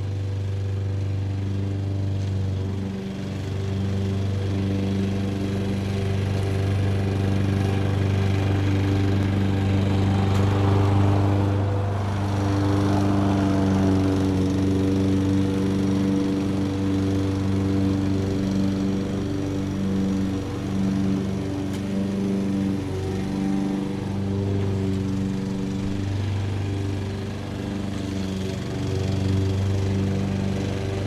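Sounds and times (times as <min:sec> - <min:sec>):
distant lawn mower engine: 0:00.0 - 0:31.0.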